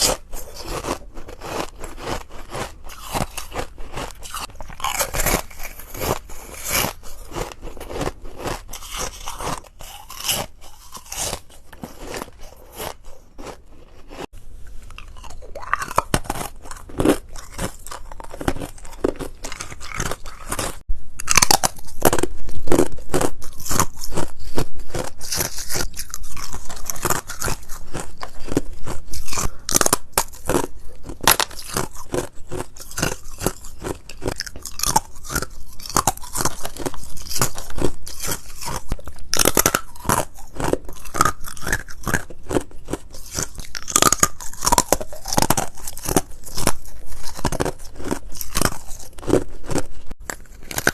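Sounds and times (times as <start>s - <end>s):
ice crunching between teeth: 0.0s - 14.3s, 14.9s - 50.9s.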